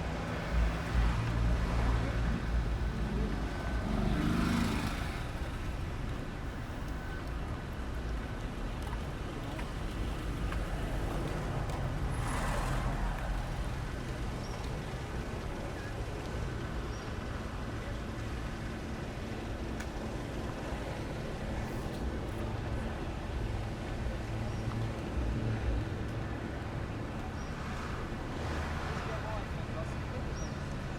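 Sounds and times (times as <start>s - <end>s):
engine running with low hum: 0.0s - 30.9s.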